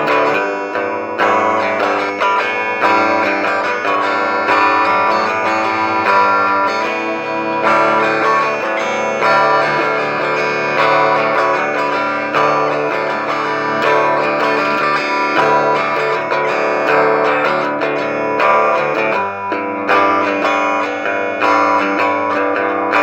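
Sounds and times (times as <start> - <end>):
strummed guitar chords: 0.0 - 23.0.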